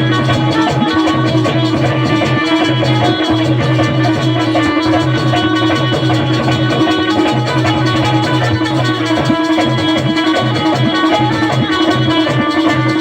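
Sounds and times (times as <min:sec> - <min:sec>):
steady percussion rhythm: 0:00.0 - 0:13.0
sustained instrument tones: 0:00.0 - 0:13.0.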